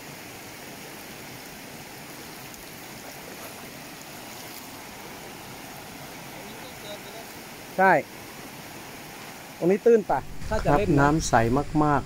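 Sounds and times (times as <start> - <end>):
stream cascading over rocks: 0.0 - 12.0.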